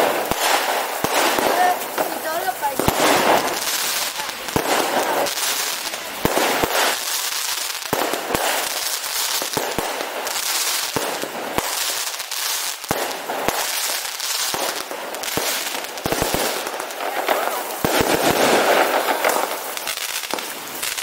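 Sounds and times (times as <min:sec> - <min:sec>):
firework shells bursting: 0:00.0 - 0:21.0
fireworks crackling and hiss: 0:00.0 - 0:21.0.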